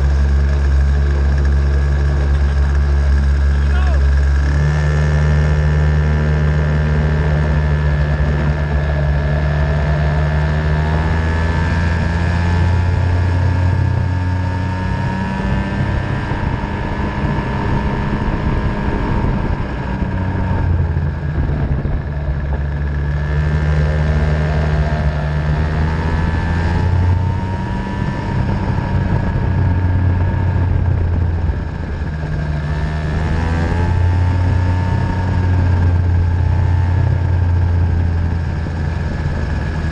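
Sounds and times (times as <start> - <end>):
racing engine accelerating: 0.0 - 39.9.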